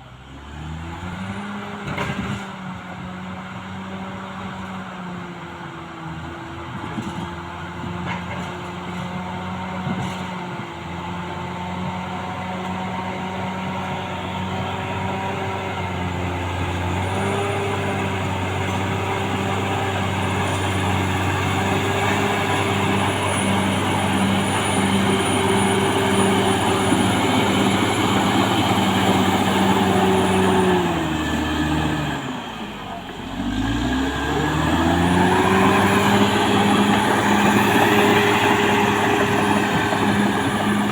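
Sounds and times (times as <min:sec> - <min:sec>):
bulldozer diesel engine running: 0:04.1 - 0:40.9.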